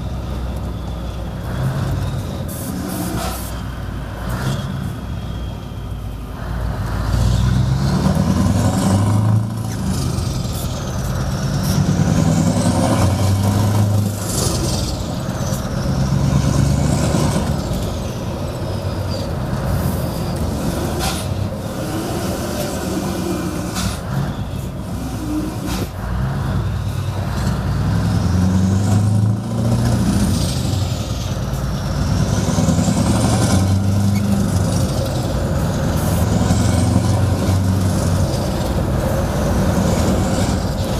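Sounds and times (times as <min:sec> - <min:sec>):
truck engine accelerating: 0:00.0 - 0:40.9.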